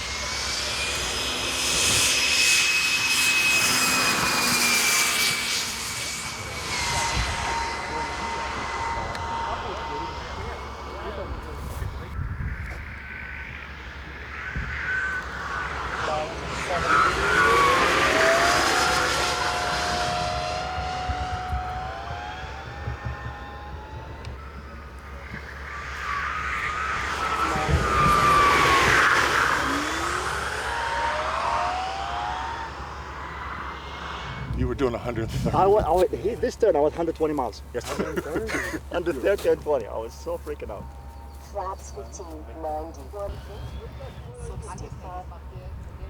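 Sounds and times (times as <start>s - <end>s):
model jet engines whining: 0.0s - 46.0s.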